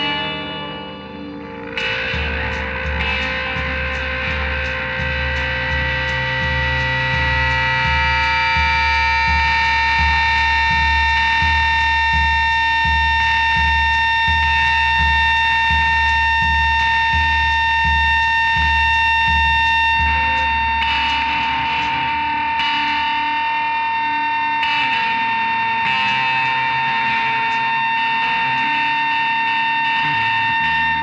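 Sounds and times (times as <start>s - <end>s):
distorted guitar drone: 0.0s - 31.0s
pulsing low beat: 0.0s - 31.0s.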